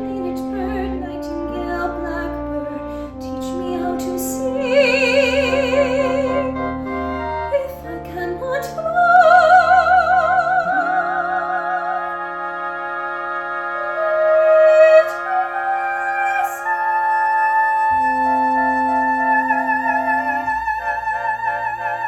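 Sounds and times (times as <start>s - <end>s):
operatic singing with vibrato: 0.0s - 22.0s
sustained accompaniment: 0.0s - 22.0s.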